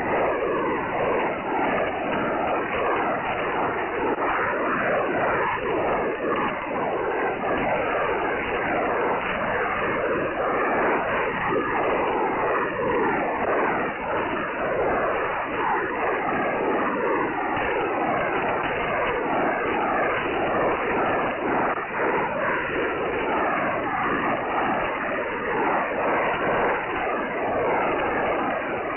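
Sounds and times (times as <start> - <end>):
radio static: 0.0 - 28.9.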